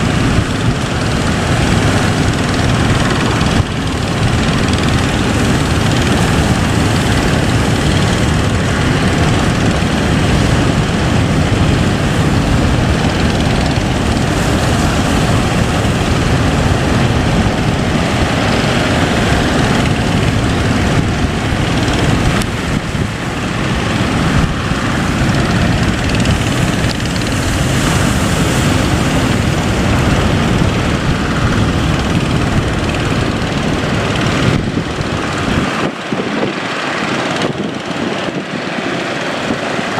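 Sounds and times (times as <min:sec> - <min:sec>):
boat engine running: 0:00.0 - 0:39.9
waves: 0:00.0 - 0:39.9
wind rushing: 0:00.0 - 0:39.9.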